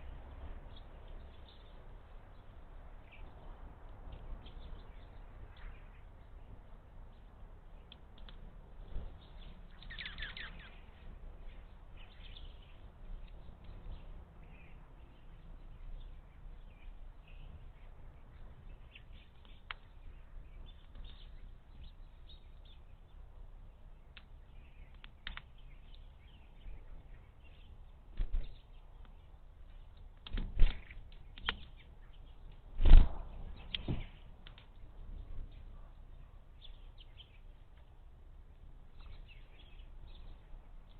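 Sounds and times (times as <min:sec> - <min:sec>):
low outdoor rumble: 0:00.0 - 0:40.9
small birds chirping: 0:00.0 - 0:40.9.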